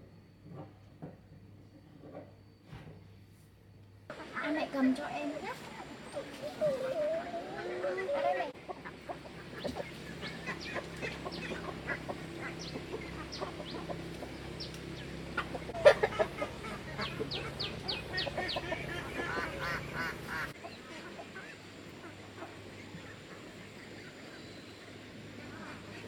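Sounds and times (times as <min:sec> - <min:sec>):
low steady hum: 0:00.0 - 0:26.0
chickens clucking: 0:04.1 - 0:26.0.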